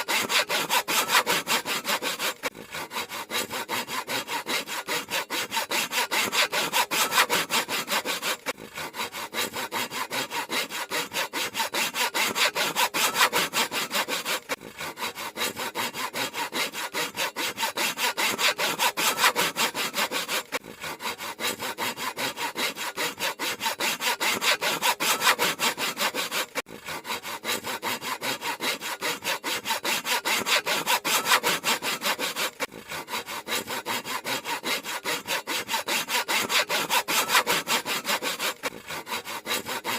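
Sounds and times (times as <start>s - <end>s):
handsaw cutting wood: 0.0s - 39.9s.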